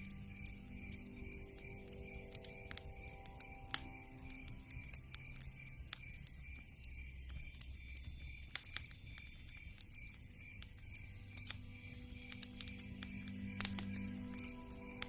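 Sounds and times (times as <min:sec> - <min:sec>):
campfire crackling: 0:00.0 - 0:15.0
sharp pops and snaps of fire: 0:00.0 - 0:15.0.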